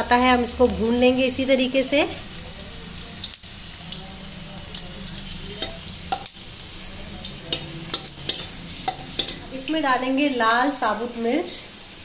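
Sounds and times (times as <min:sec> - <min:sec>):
oil crackling and popping: 0:00.0 - 0:10.0, 0:10.7 - 0:12.0
garlic sizzling in hot oil: 0:00.0 - 0:12.0.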